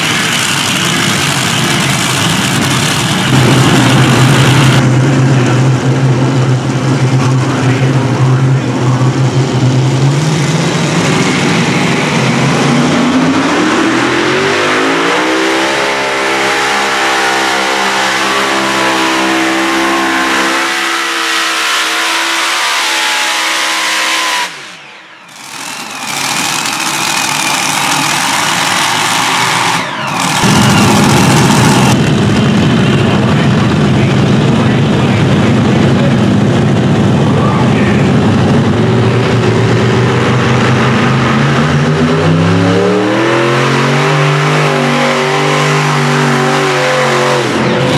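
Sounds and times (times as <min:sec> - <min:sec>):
loud steady roar: 0:00.0 - 0:47.9
tractor engine revving: 0:00.0 - 0:47.9.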